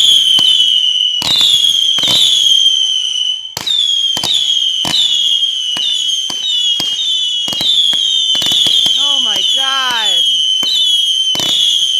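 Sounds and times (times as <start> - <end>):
fireworks bangs: 0.0 - 11.9.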